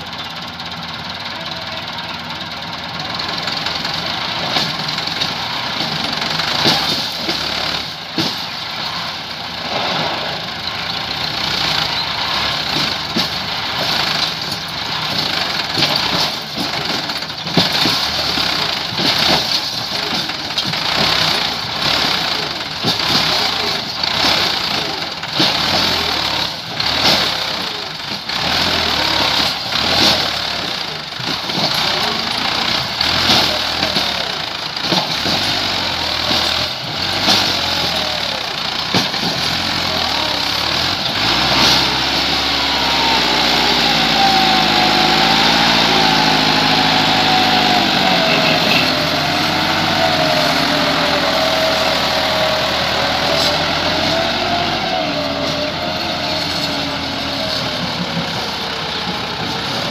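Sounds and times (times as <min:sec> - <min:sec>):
tractor diesel engine straining: 0:00.0 - 0:59.9.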